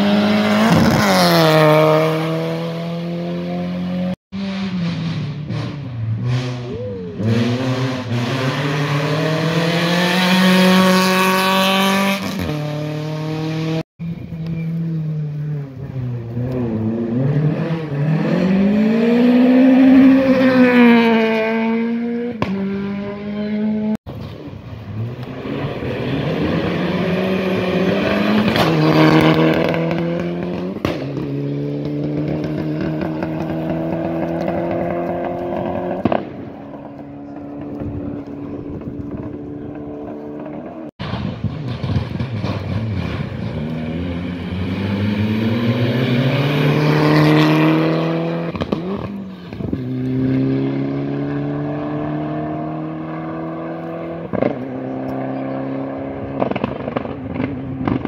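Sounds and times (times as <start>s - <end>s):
rally car engines at full throttle: 0.0s - 58.0s.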